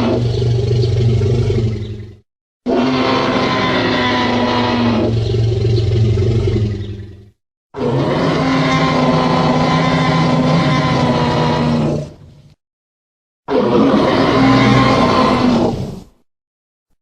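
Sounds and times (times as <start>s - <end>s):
deep dinosaur roar: 0.0s - 12.2s, 13.5s - 16.1s.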